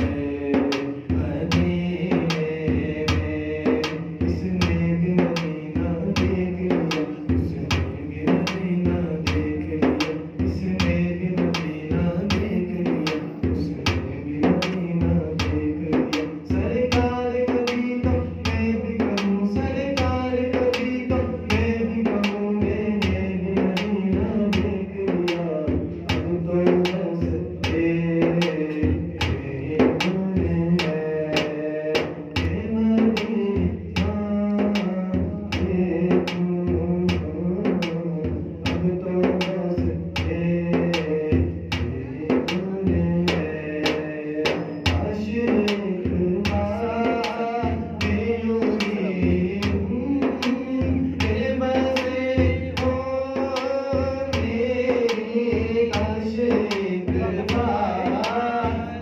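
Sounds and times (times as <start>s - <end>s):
hand-beaten frame drum: 0.0s - 59.0s
man singing devotional song: 0.0s - 59.0s.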